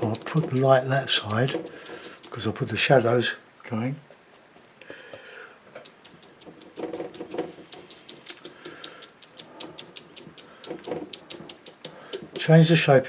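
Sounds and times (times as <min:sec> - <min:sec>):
brush tapping on paper: 0:00.0 - 0:03.1, 0:04.0 - 0:13.0.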